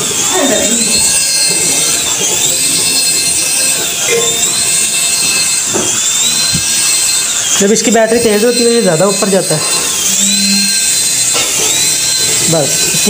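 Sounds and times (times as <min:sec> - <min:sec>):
toy helicopter rotors whirring: 0:00.0 - 0:13.0.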